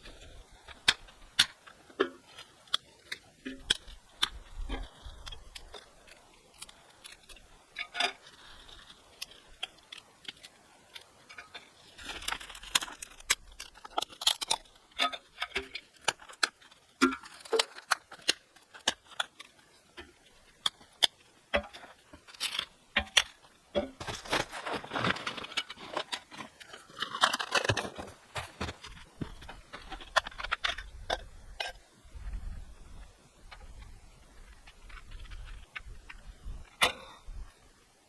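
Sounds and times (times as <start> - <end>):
sharp clicks and light knocks: 0.0 - 31.9.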